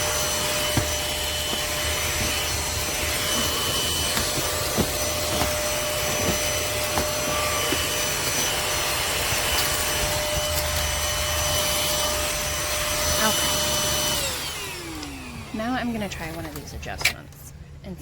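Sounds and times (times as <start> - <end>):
stick vacuum whining: 0.0 - 17.4.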